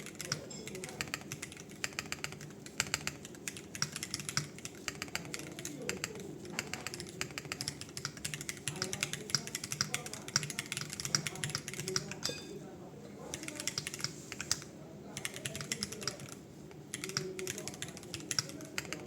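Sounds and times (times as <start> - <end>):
fast keyboard typing clacks: 0.0 - 12.4, 13.3 - 19.0.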